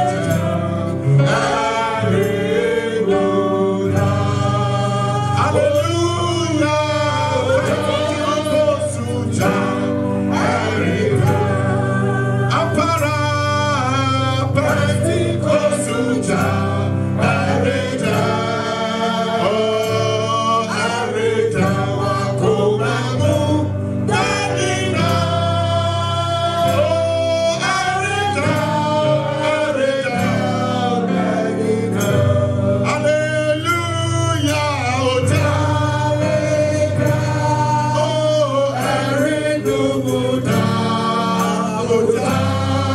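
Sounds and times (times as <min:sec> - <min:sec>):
instrumental backing: 0:00.0 - 0:42.9
voices singing together: 0:00.0 - 0:42.9.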